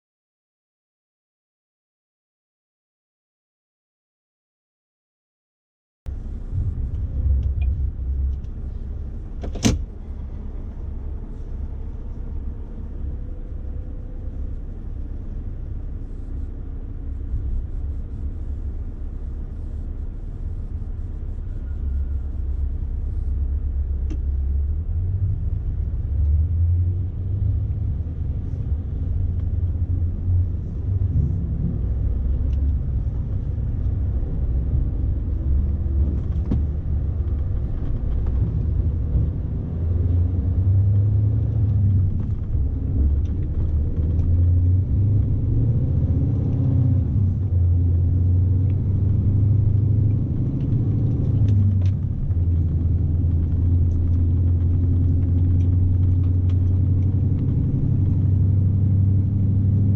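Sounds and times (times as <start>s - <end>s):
truck engine and road rumble: 6.1s - 59.9s.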